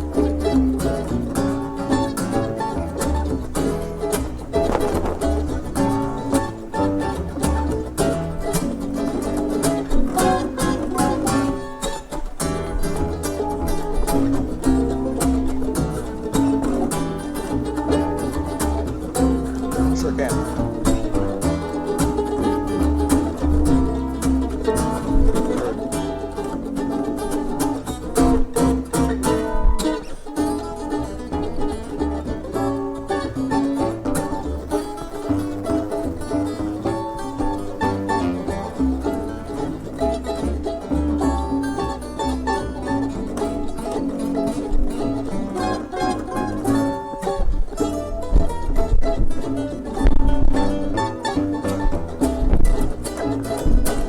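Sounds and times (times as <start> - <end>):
acoustic string trio playing: 0.0 - 54.0.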